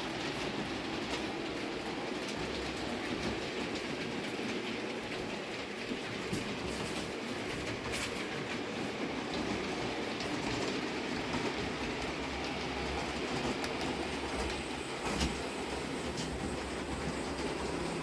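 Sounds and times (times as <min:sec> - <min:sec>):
model train wheels and motor whirring: 0:00.0 - 0:18.0.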